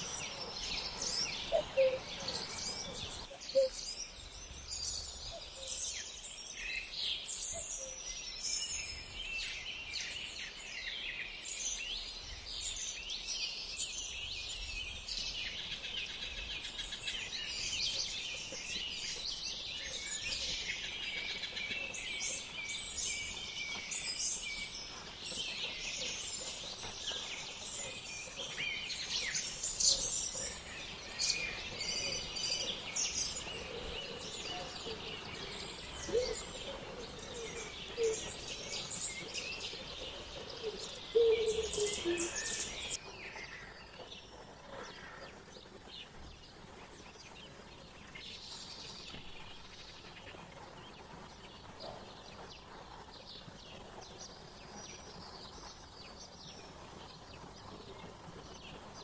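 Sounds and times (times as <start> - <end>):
wild birds chirping and trilling: 0.0 - 59.0.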